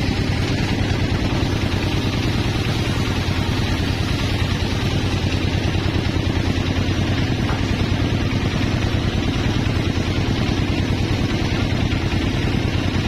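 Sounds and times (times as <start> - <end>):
sawmill machinery engine running: 0.0 - 13.0.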